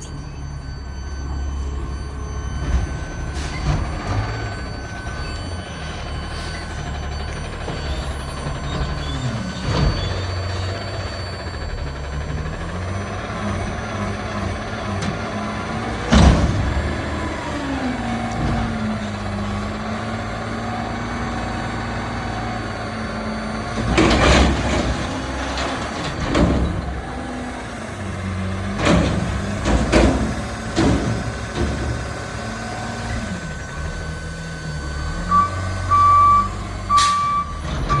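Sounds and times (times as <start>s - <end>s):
garbage truck engine droning: 0.0s - 38.0s
reversing alarm beeping: 0.0s - 38.0s.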